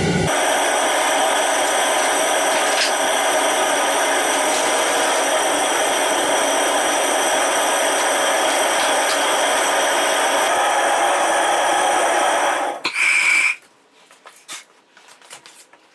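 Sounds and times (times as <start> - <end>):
furnace burner rushing hiss: 0.0 - 13.6.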